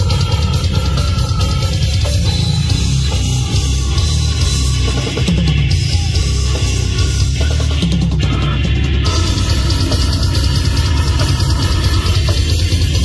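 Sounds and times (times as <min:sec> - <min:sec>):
distorted electric guitar: 0:00.0 - 0:13.0
drum kit: 0:00.0 - 0:13.0.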